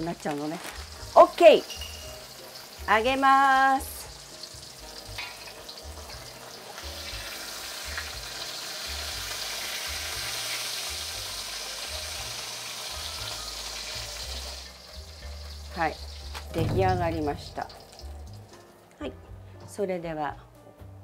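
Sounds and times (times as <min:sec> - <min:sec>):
fish sizzling in hot oil: 0:00.0 - 0:18.9.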